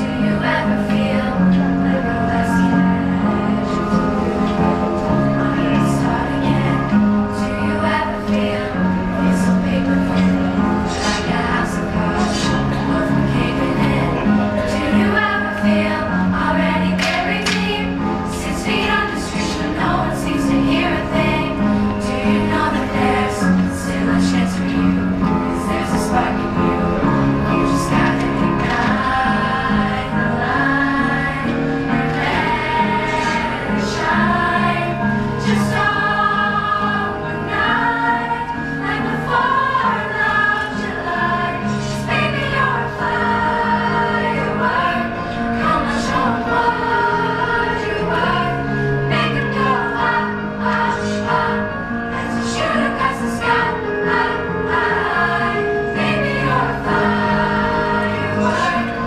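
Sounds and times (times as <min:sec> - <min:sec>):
children's chorus singing: 0:00.0 - 0:59.0.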